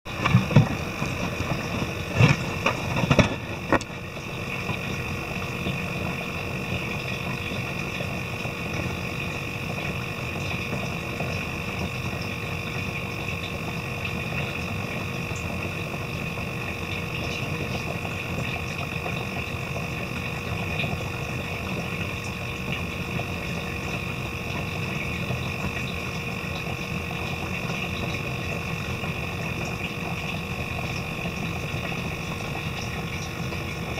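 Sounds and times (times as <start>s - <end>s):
electric pump humming: 0.0s - 33.9s.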